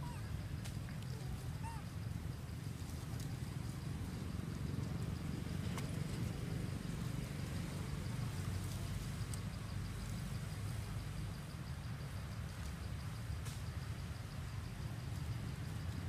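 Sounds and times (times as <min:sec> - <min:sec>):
insect chirping: 0:00.0 - 0:16.0.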